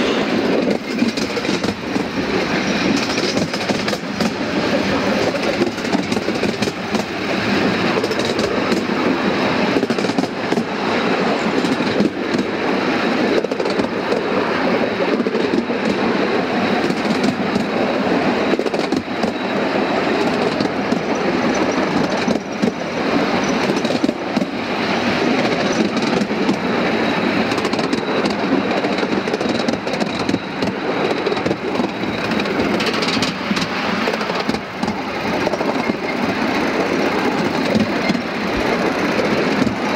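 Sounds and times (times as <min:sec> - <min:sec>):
train wheels rushing on rails: 0:00.0 - 0:39.9.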